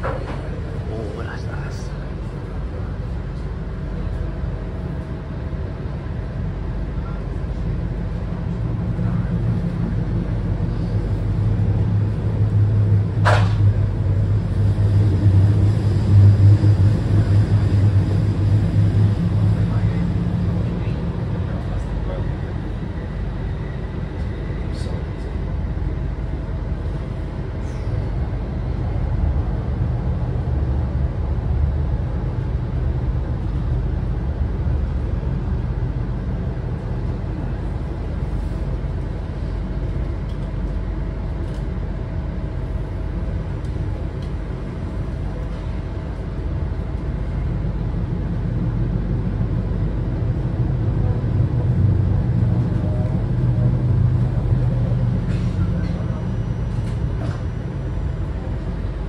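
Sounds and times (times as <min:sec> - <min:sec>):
vehicle rumble in motion: 0:00.0 - 0:59.0.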